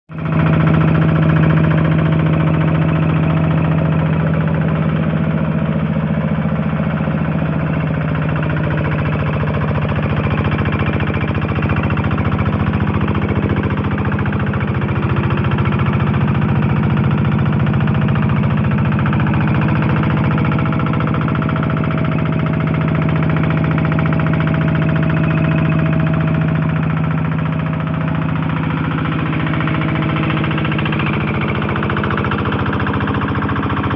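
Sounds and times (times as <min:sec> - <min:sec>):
diesel engine driving water pump: 0:00.1 - 0:33.9.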